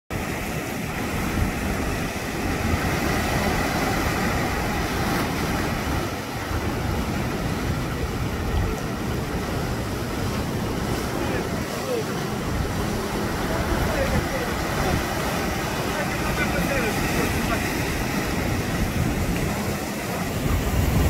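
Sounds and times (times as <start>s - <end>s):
surf breaking over rocks: 0.1s - 21.0s
wind buffeting microphone: 0.1s - 21.0s.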